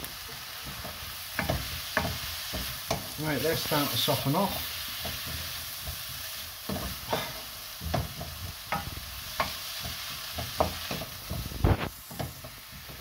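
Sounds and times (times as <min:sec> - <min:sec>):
onions sizzling in a frying pan: 0:00.0 - 0:13.0
wooden spoon scraping a pan: 0:00.2 - 0:13.0.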